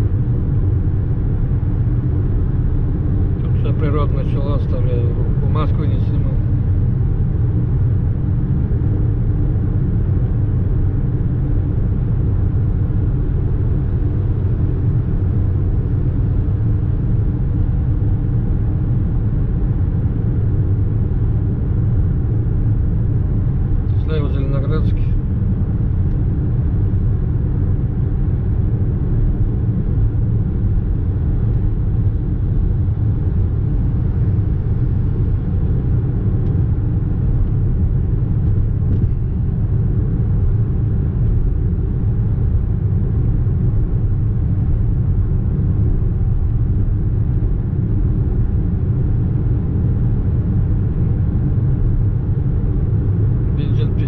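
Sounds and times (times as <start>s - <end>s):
road and engine rumble inside car: 0.0s - 54.0s.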